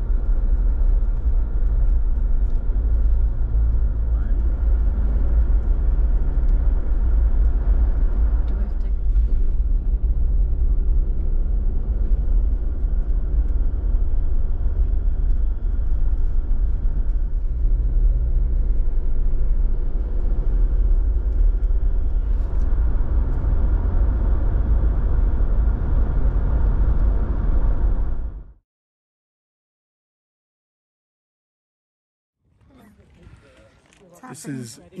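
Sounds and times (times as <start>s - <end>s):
faint engine hum: 0.0s - 28.6s
vehicle rumble: 0.0s - 28.6s.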